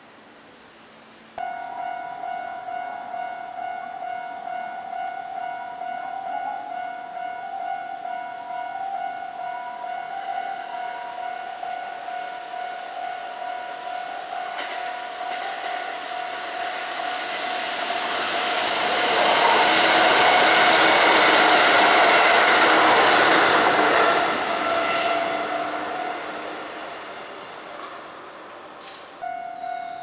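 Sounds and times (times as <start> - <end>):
electric train passing: 1.4 - 30.0
steady tone: 1.4 - 30.0.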